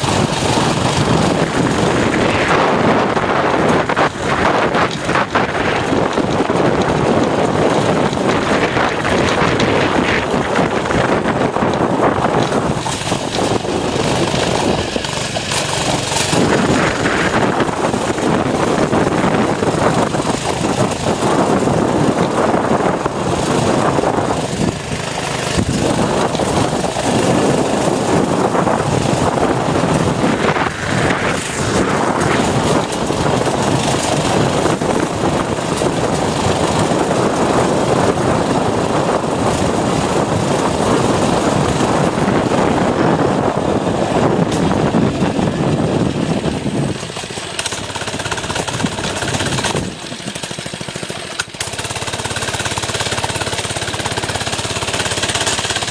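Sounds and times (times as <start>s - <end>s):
small motorbike engine revving: 0.0s - 55.9s
wind noise on microphone: 0.0s - 55.9s.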